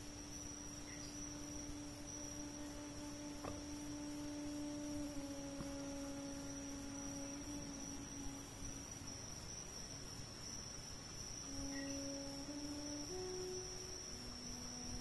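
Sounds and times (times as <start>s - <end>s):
faint steady hum: 0.0s - 15.0s
thin high continuous tone: 0.0s - 15.0s.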